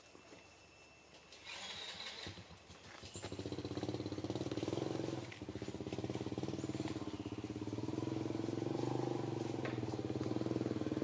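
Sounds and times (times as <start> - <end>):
small engine running: 1.4 - 11.0.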